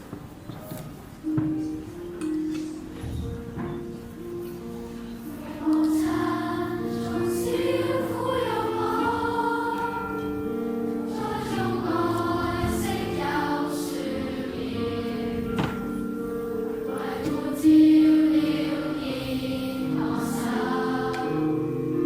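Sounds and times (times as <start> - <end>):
choir singing: 0.7 - 22.0.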